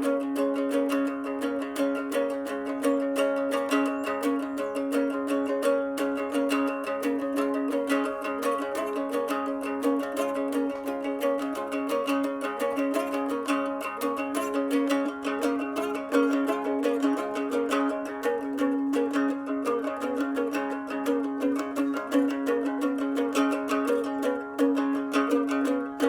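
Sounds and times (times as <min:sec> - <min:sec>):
plucked string instrument: 0:00.0 - 0:26.0.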